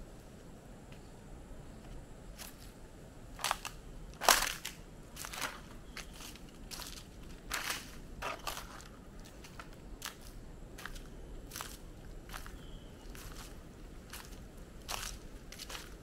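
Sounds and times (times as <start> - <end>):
faint background hiss: 0.0 - 16.0
crunching and crackling snaps: 1.9 - 16.0.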